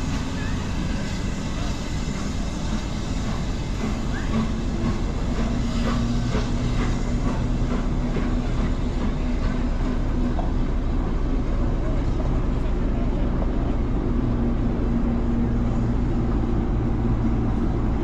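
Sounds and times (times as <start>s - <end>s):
diesel engine humming: 0.0s - 18.0s
train wheels clicking over rails: 0.0s - 18.0s.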